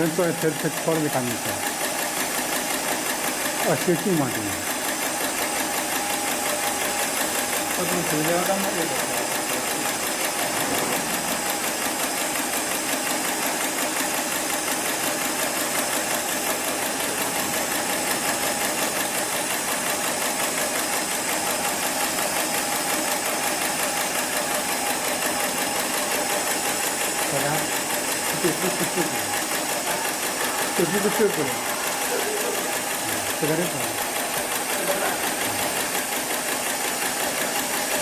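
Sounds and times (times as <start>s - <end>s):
sewing machine stitching: 0.0s - 38.0s.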